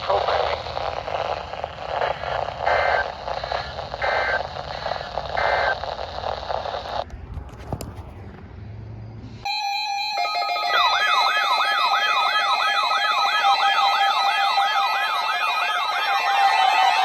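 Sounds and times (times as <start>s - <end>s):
warbling alarm: 0.0s - 7.0s, 9.5s - 17.0s.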